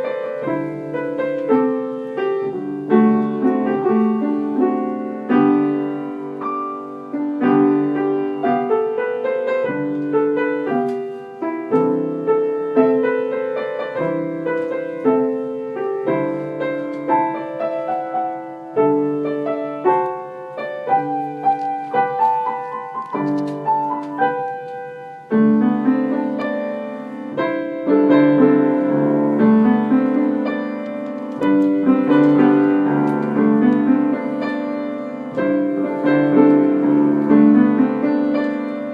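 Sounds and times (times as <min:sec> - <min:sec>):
piano music: 0:00.0 - 0:38.9.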